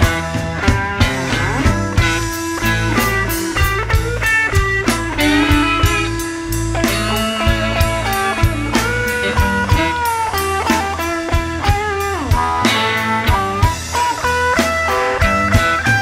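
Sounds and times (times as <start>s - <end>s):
bass guitar: 0.0s - 16.0s
electric guitar solo: 0.0s - 16.0s
steady drum beat: 0.0s - 16.0s.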